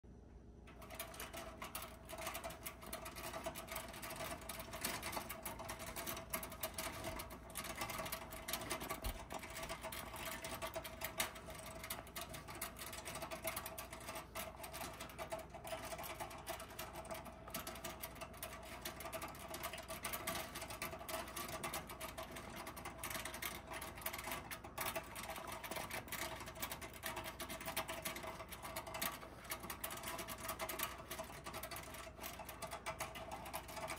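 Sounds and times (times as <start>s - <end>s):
toy mechanism clattering: 0.7s - 33.9s.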